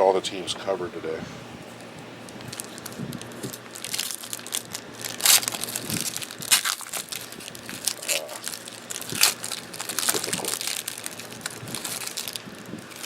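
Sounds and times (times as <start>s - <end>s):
cellophane wrapper crinkling and tearing: 1.9s - 13.0s.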